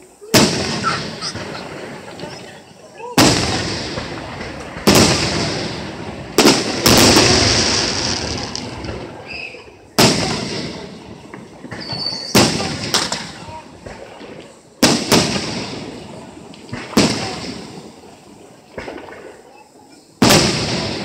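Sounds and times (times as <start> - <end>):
hiss and rumble: 0.0 - 21.0
firework shells bursting: 0.3 - 19.5.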